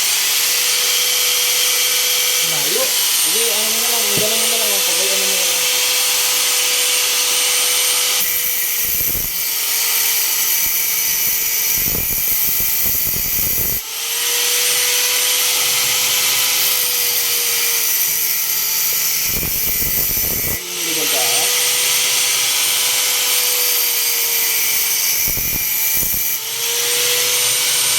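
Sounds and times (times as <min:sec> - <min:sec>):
arc welding sizzling hiss: 0:00.0 - 0:27.9.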